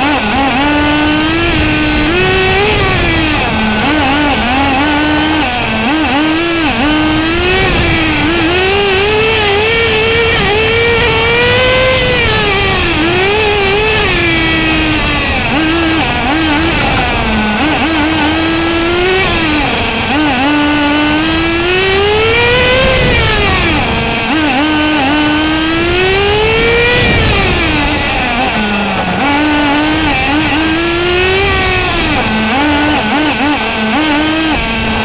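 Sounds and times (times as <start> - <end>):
rc car engine revving: 0.0 - 35.0.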